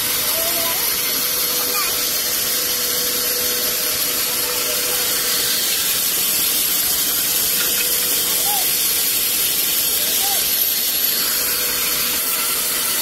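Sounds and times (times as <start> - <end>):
band saw running: 0.0 - 13.0.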